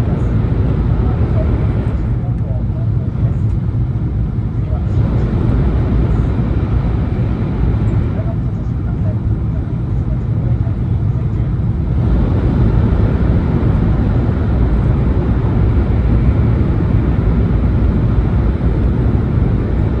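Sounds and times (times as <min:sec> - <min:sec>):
train rumbling and rushing: 0:00.0 - 0:20.0.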